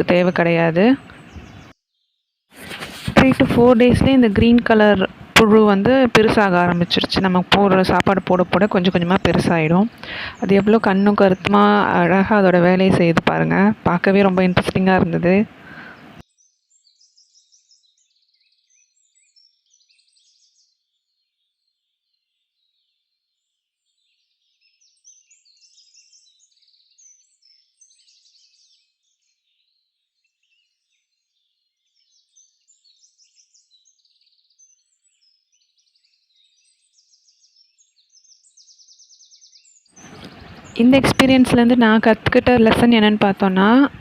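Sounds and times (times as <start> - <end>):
birds chirping and twittering: 0.0 - 44.0.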